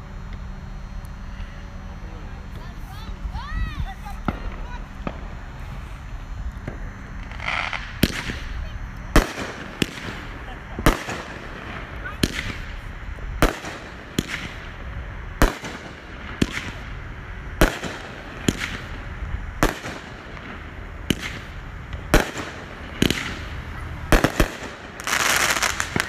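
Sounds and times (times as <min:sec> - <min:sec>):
fireworks bangs with rumble: 0:02.4 - 0:26.0.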